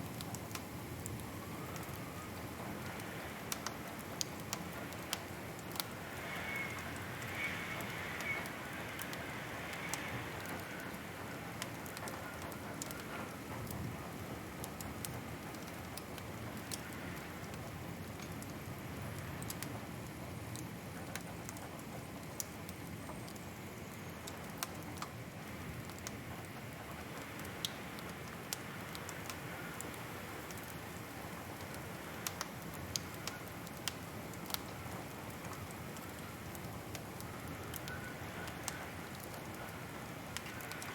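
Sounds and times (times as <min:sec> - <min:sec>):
soft hiss of fire: 0:00.0 - 0:40.9
wood fire crackling: 0:00.0 - 0:40.9.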